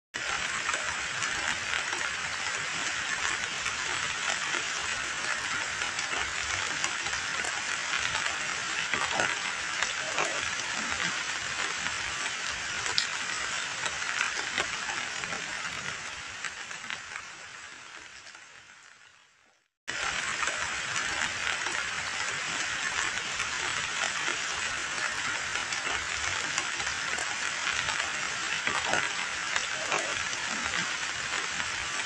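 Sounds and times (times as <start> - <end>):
heavy rain splashing in puddle: 0.2 - 18.9, 19.9 - 32.0.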